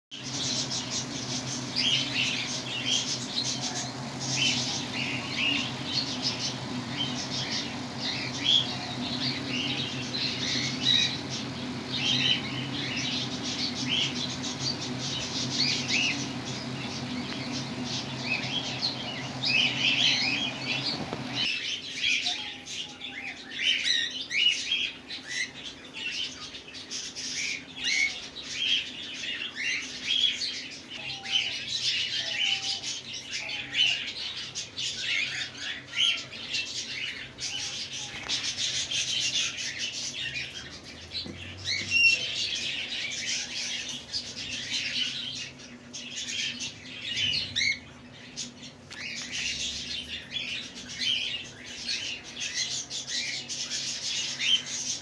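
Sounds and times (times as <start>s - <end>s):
cockatiels chirping: 0.2s - 55.0s
faint steady hum: 0.2s - 55.0s.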